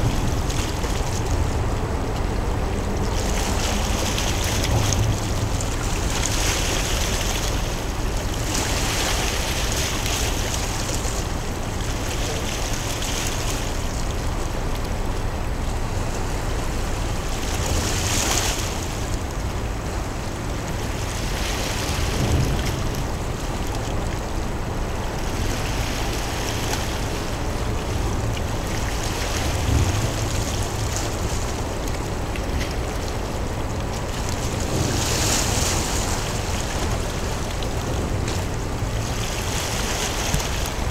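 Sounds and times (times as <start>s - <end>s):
water lapping: 0.0s - 40.9s.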